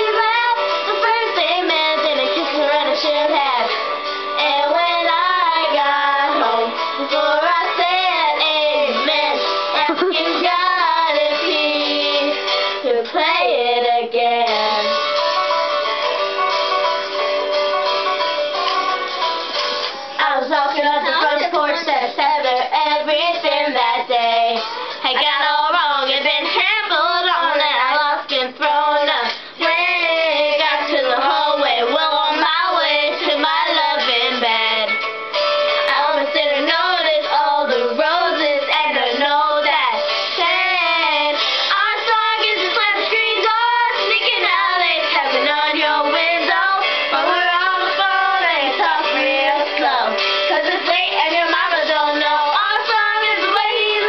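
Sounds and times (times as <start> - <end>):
girls singing along: 0.0 - 15.0, 19.9 - 35.0, 35.8 - 54.0
recorded pop song: 0.0 - 54.0.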